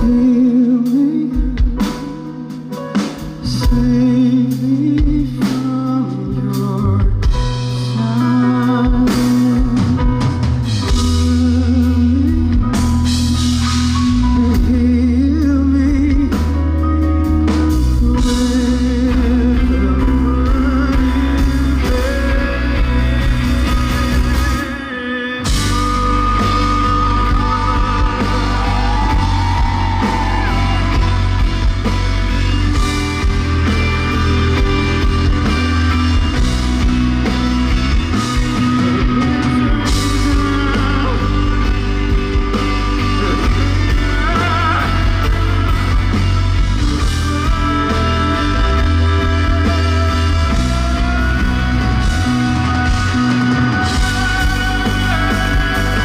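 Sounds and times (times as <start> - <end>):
bass: 0.0 - 56.0
drum kit: 0.0 - 56.0
live band music: 0.0 - 56.0
person singing: 0.0 - 56.0.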